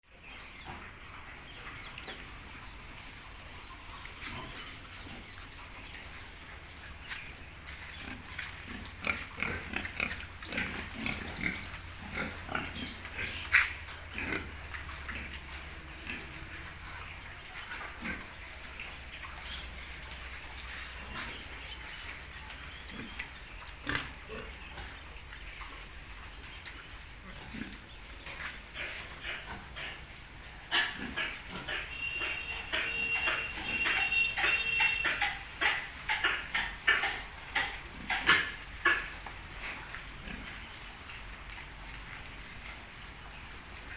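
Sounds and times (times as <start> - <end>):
pigs calling: 0.6 - 43.9.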